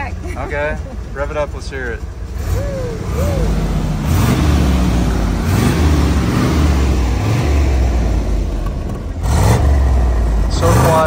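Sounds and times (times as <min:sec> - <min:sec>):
car engine revving: 0:00.5 - 0:11.0.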